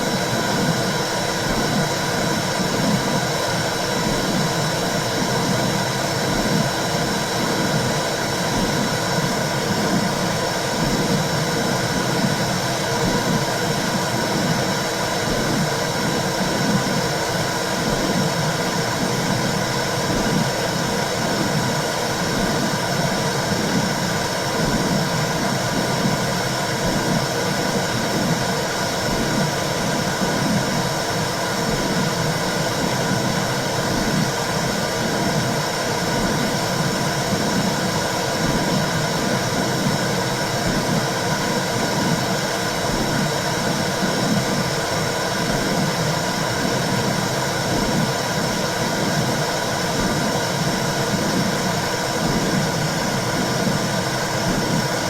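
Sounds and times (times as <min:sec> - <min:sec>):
low heartbeat-like pulse: 0:00.2 - 0:17.2, 0:17.8 - 0:30.9, 0:31.6 - 0:55.0.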